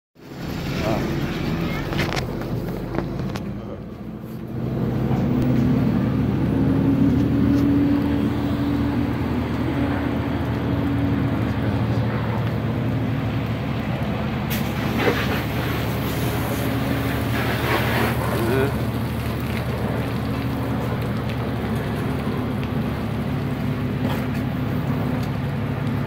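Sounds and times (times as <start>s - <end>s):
fire engine pump droning: 0.2s - 26.0s.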